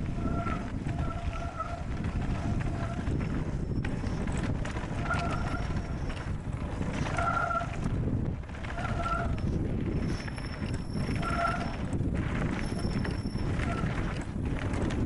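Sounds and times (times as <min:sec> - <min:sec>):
bike rattling over gravel: 0:00.0 - 0:15.0
wind on microphone: 0:00.0 - 0:15.0.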